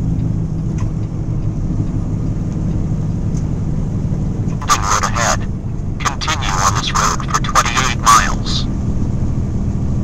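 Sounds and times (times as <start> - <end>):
vehicle engine and tyres droning: 0.0 - 10.0.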